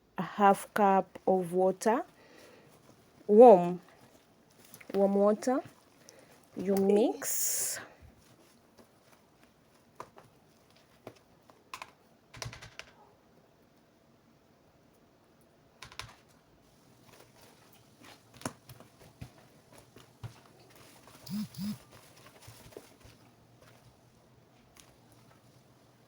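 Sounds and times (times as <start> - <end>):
dough mixing clicks and taps in bowl: 0.5 - 13.0, 15.8 - 21.3, 21.9 - 26.0.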